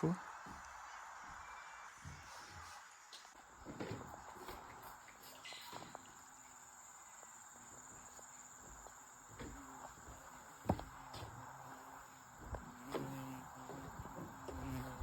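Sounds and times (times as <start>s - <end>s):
rainforest insects droning: 0.0s - 15.0s.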